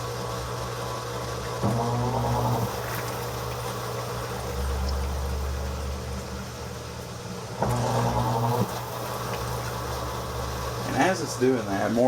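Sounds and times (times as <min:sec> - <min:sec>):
washing machine motor revving: 0:00.0 - 0:12.0.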